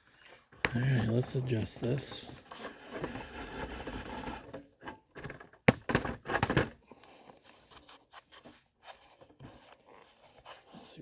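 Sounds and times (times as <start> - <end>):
handling rubbing and shuffling: 0.0 - 4.6, 6.8 - 11.0.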